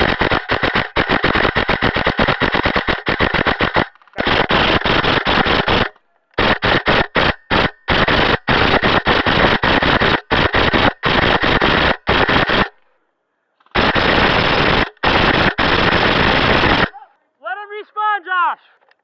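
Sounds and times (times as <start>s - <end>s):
airsoft gun firing bursts: 0.0s - 12.8s, 13.7s - 17.0s.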